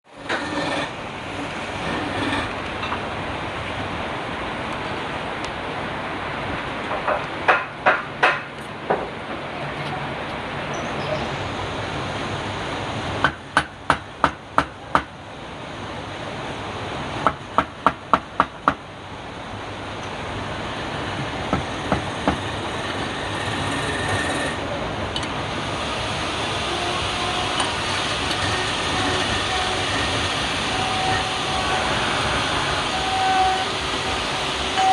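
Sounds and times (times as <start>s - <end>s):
steady background noise: 0.1s - 34.9s.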